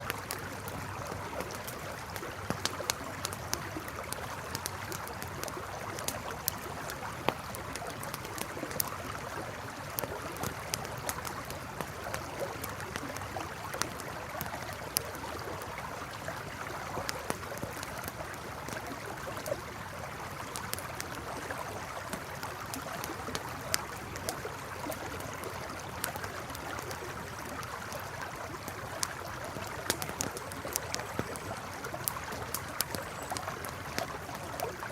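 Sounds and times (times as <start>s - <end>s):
campfire crackling: 0.0s - 34.9s
river flowing: 0.0s - 34.9s.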